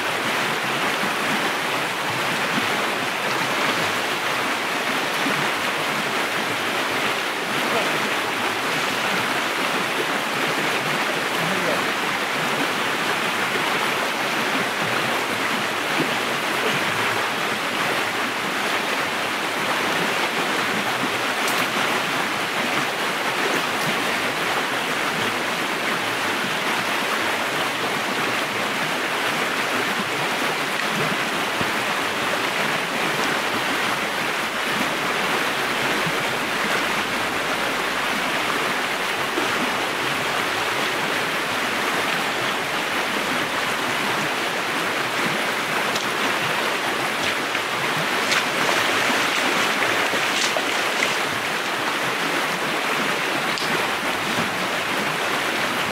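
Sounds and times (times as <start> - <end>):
river flowing: 0.0 - 55.9.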